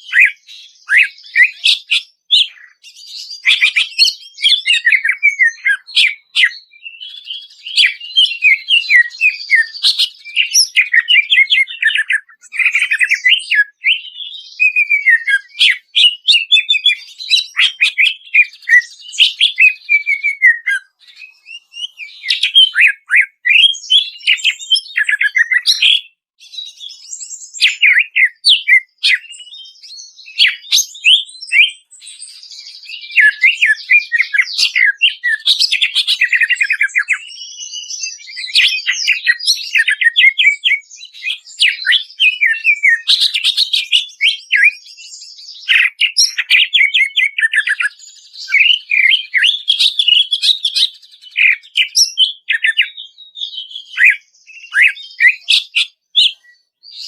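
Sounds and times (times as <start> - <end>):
bird singing whistled song: 0.0 - 57.0.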